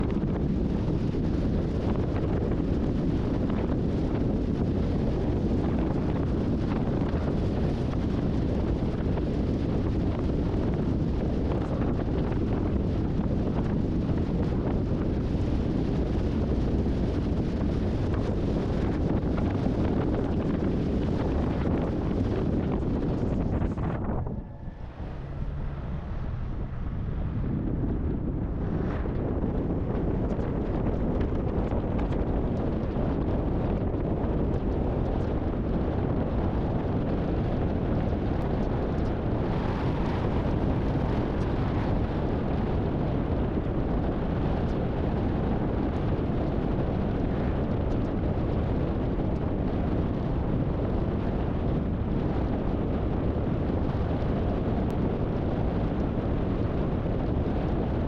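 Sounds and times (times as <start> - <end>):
strong wind on microphone: 0.0 - 58.0.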